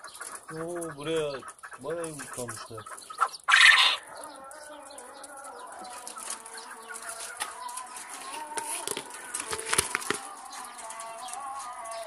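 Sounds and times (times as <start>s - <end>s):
poultry clucking and chirping: 0.0s - 12.0s.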